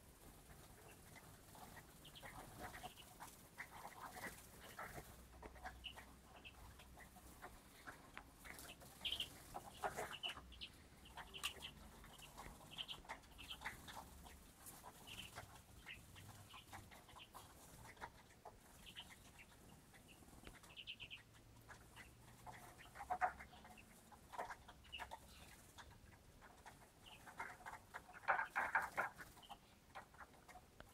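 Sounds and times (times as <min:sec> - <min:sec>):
birds chirping: 0:00.0 - 0:30.9.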